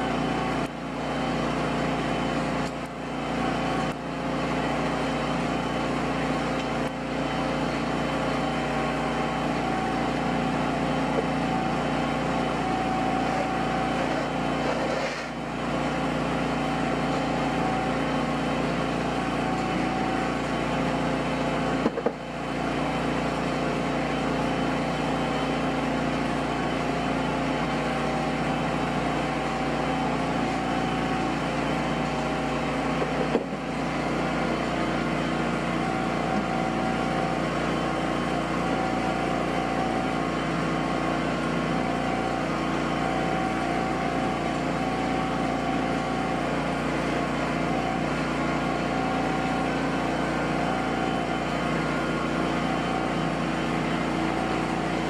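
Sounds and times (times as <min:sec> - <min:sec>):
machine droning: 0:00.0 - 0:55.0.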